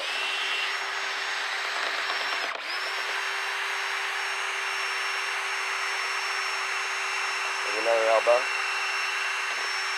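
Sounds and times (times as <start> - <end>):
power drill running: 0.0 - 9.9.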